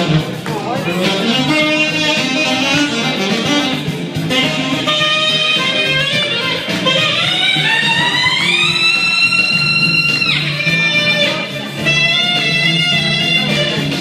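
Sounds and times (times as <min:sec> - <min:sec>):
saxophone melody: 0:00.0 - 0:14.0.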